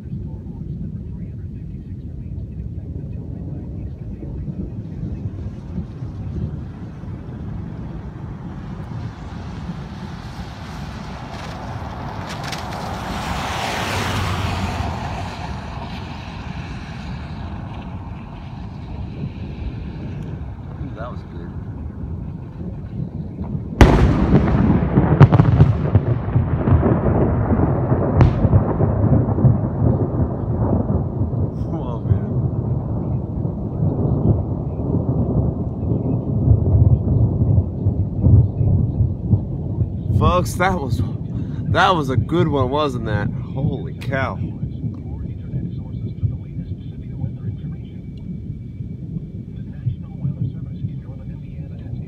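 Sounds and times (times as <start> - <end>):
low thunder rumble: 0.0 - 52.0
rain hiss: 3.6 - 36.4, 37.8 - 52.0.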